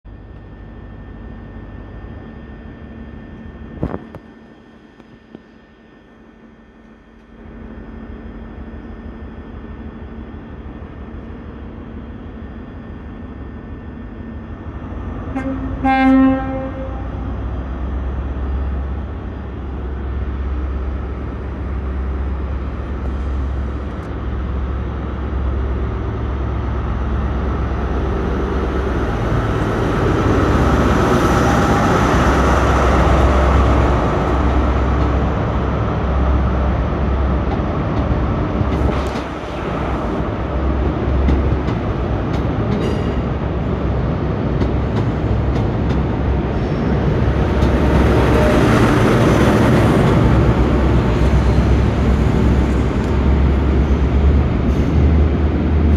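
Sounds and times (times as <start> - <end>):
diesel locomotive engine rumble: 0.1 - 55.9.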